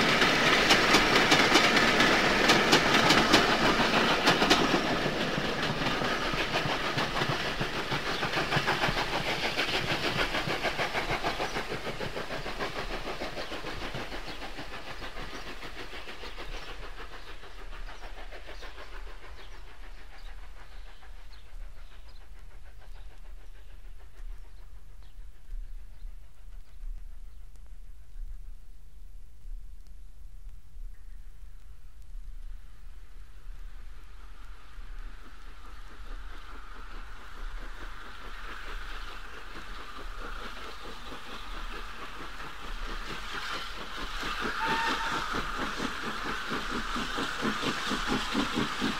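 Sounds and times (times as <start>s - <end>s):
train wheel clatter: 0.0s - 27.5s, 32.4s - 48.9s
steam locomotive exhaust: 0.0s - 28.5s, 30.9s - 48.9s.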